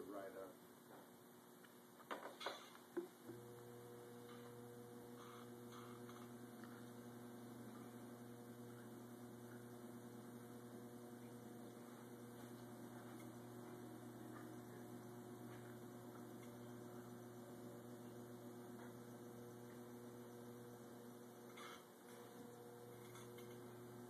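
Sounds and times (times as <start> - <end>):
potter's wheel motor humming: 3.0 - 24.0.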